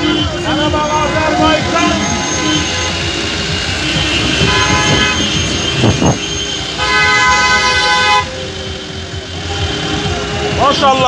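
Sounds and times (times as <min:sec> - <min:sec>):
car horns honking: 0:00.0 - 0:11.0.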